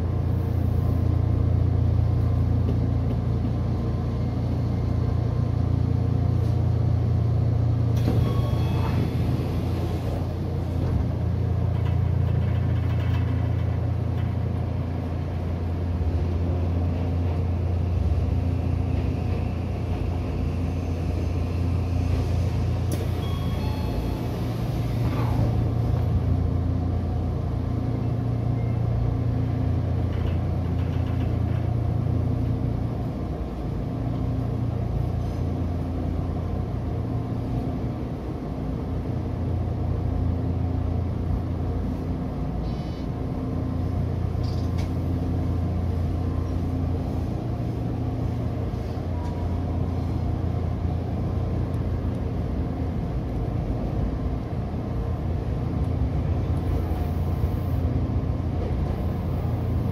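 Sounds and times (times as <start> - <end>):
electric train rumble and hum: 0.0 - 59.9.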